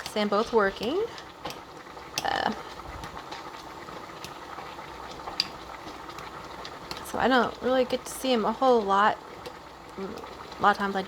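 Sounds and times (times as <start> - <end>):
water simmering in a pan: 0.0 - 11.0.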